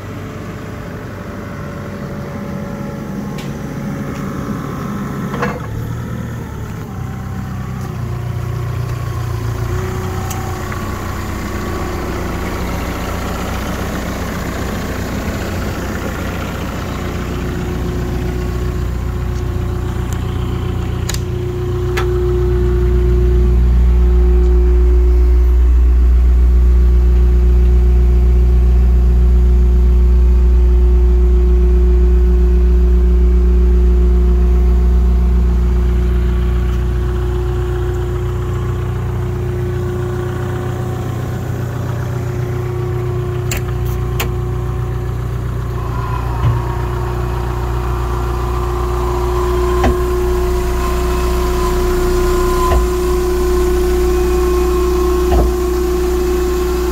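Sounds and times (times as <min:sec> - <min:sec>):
forklift engine idling: 0:00.0 - 0:56.9.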